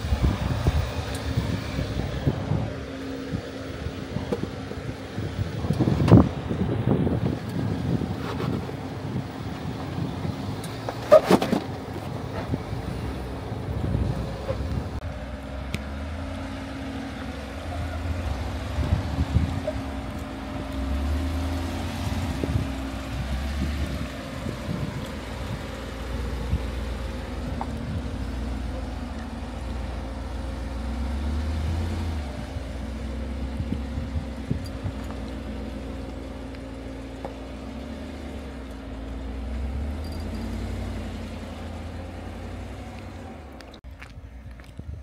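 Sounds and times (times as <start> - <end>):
engine running at low speed: 0.0 - 45.0.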